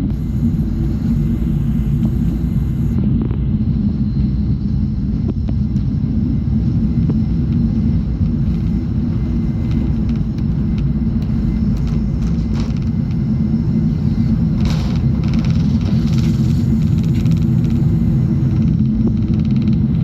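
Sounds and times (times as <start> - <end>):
deep jet cabin rumble: 0.0 - 20.0.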